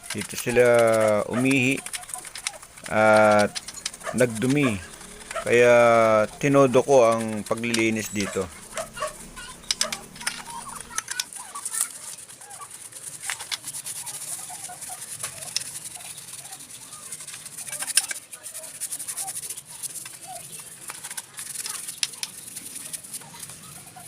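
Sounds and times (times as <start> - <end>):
stiff brush scrubbing: 0.0 - 24.0.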